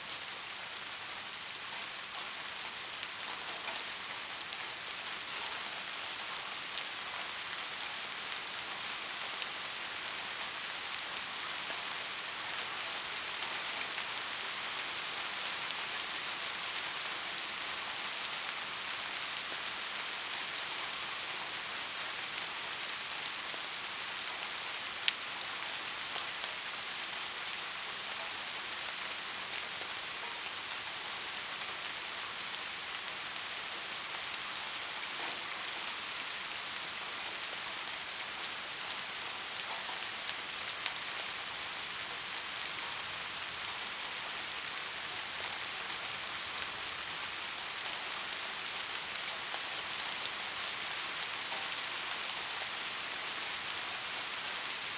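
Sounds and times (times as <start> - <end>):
soft rain falling: 0.0 - 54.9.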